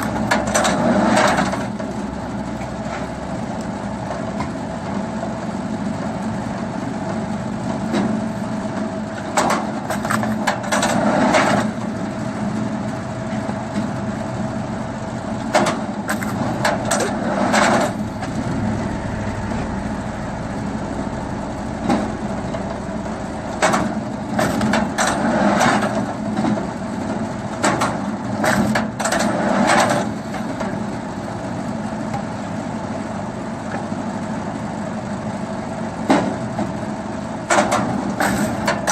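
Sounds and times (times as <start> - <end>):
log splitter motor drone: 0.0 - 38.9.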